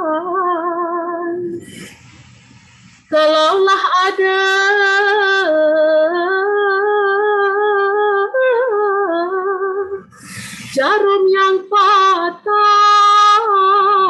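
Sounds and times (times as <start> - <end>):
woman singing: 0.0 - 1.6, 3.1 - 10.1, 10.7 - 14.0.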